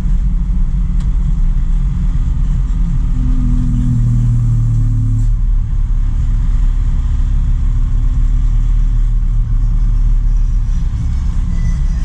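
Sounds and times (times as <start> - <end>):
road noise: 0.0 - 12.0
truck engine rumbling: 0.0 - 12.0.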